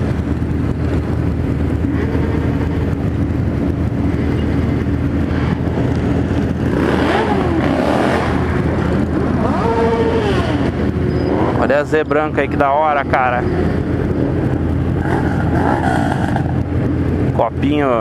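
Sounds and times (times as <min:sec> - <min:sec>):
motorcycle engine drone: 0:00.0 - 0:18.0
motorcycles revving: 0:00.0 - 0:18.0.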